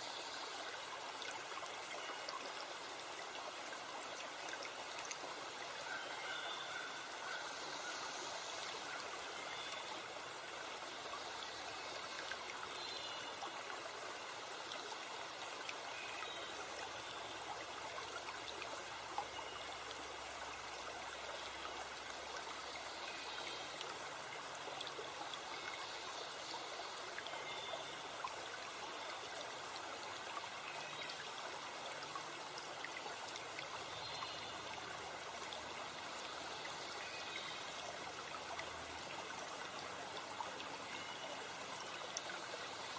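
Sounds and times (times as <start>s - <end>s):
stream flowing over rocks: 0.0s - 42.9s.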